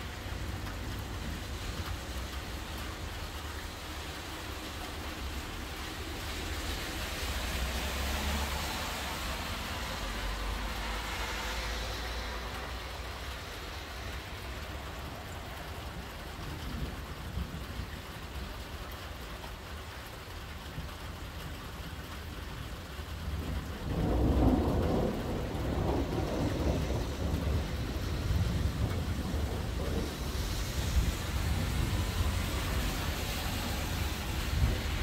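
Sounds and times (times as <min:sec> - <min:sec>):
car tyres hissing on wet road: 0:00.0 - 0:35.0
steady rain: 0:00.0 - 0:35.0.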